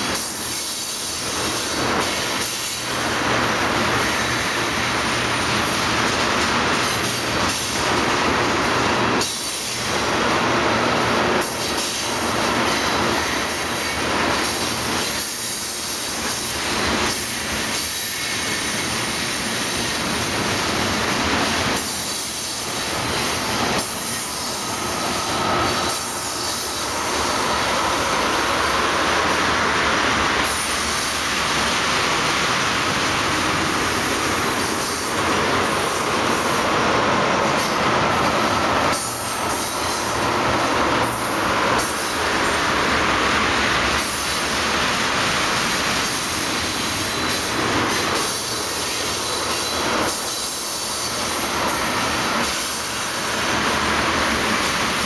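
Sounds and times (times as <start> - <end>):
freight train rolling on rails: 0.0 - 55.0.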